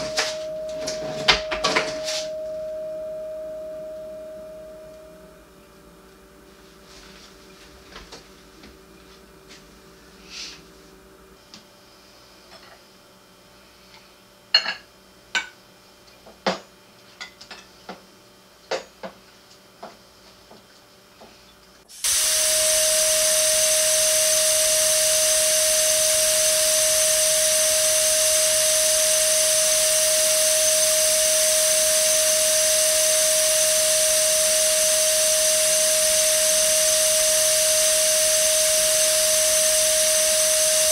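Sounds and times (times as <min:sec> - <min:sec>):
loud steady hiss with tone: 0:00.0 - 0:14.4, 0:21.8 - 0:40.9.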